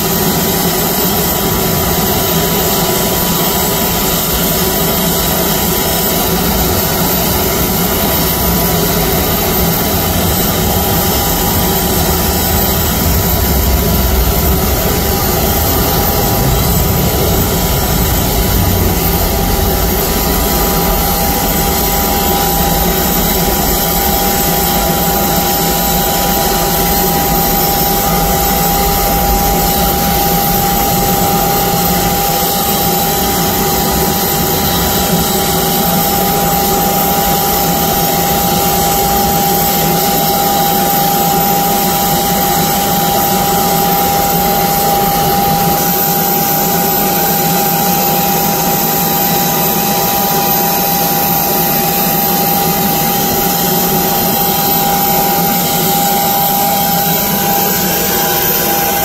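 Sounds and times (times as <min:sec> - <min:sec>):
aircraft turbine whine: 0:00.0 - 0:59.0.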